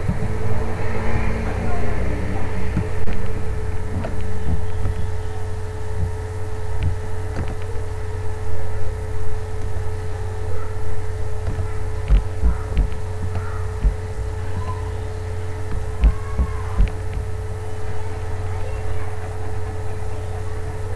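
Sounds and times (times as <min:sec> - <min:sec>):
soft low thumps: 0:00.0 - 0:17.6
steady low hum: 0:00.0 - 0:20.9.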